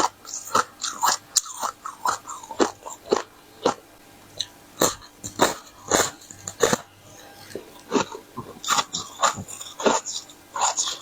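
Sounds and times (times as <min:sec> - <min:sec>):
crunching and chewing ice: 0:00.0 - 0:11.0.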